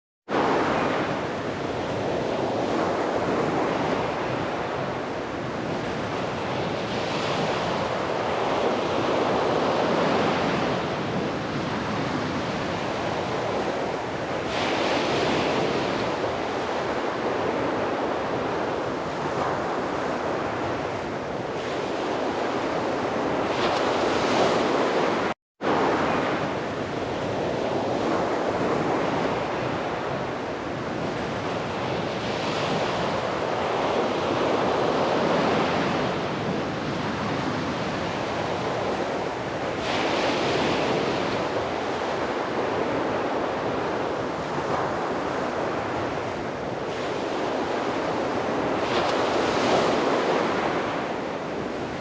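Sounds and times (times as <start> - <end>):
waves washing on a beach: 0.3 - 52.0.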